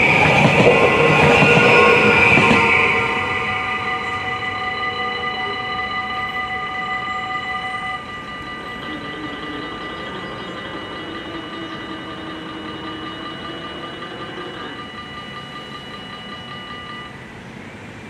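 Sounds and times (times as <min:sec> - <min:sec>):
level crossing bells ringing: 0:00.0 - 0:17.3
departing train: 0:00.0 - 0:18.0.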